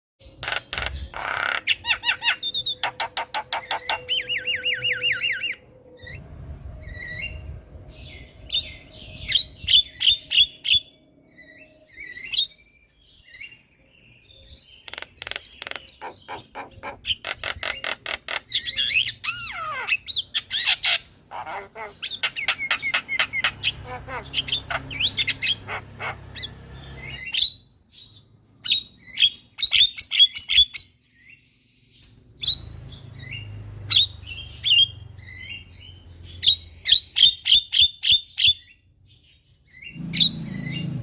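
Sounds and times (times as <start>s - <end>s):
myna bird singing: 0.2s - 41.0s.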